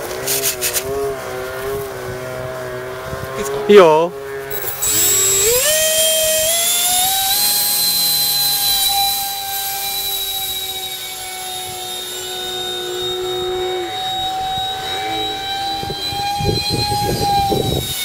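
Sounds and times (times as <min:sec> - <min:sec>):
model jet fan whining: 0:00.0 - 0:18.0.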